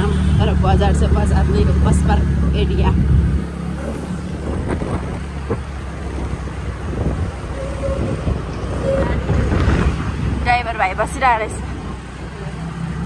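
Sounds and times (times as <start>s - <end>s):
scooter road noise rumble: 0.0s - 13.0s
wind rushing over microphone: 0.6s - 12.2s.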